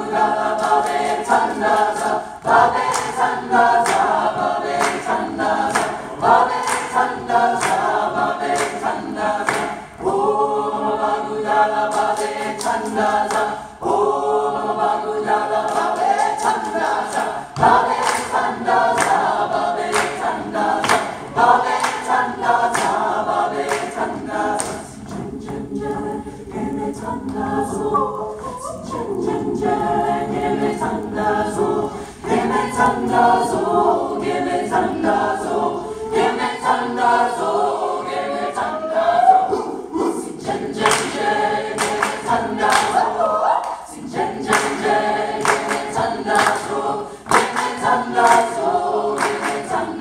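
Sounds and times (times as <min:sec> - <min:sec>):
choir singing a cappella: 0:00.0 - 0:50.0.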